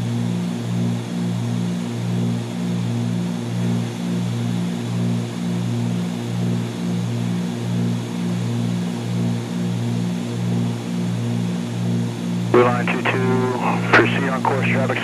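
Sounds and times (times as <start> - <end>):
propeller engines droning in cabin: 0.0 - 15.0.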